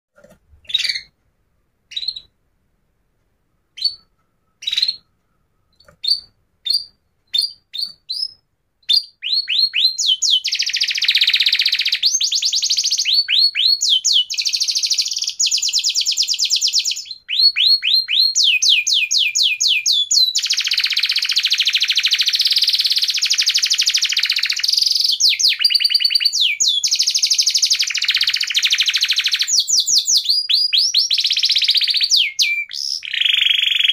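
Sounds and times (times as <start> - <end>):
bird chirping and trilling: 0.6 - 1.2, 1.9 - 2.4, 3.6 - 33.9.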